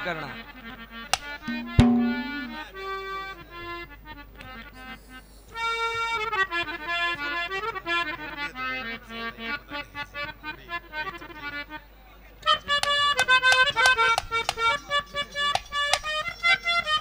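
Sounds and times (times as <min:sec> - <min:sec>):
harmonium playing held notes: 0:00.0 - 0:17.0.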